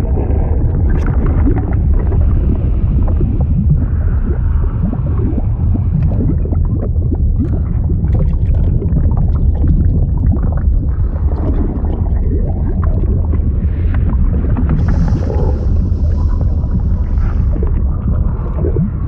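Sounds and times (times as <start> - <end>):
deep liquid bubbling and gurgling: 0.0 - 19.0.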